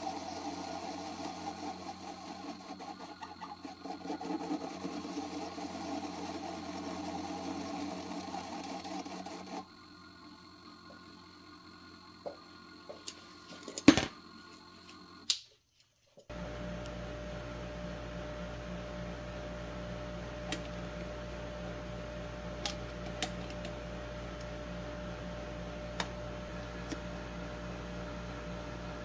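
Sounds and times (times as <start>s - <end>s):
lathe humming with faint whine: 0.0s - 15.2s, 16.3s - 29.0s.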